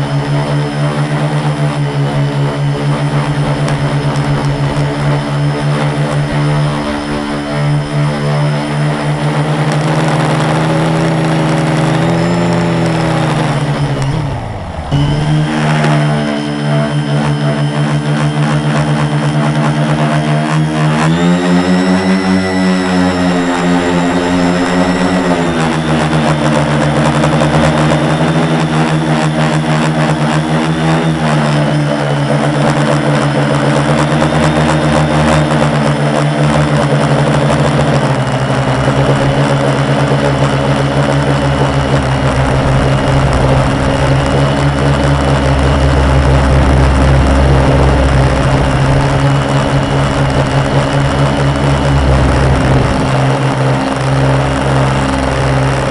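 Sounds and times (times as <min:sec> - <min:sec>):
drone motors buzzing: 0:00.0 - 0:55.9.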